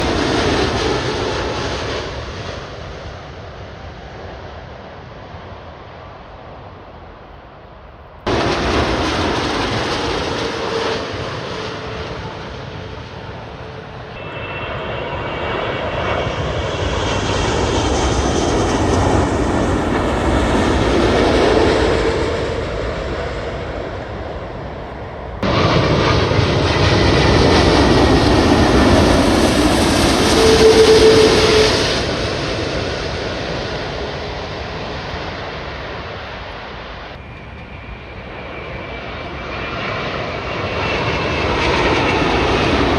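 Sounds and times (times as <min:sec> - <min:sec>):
jet airliners flying past: 0:00.0 - 0:42.9.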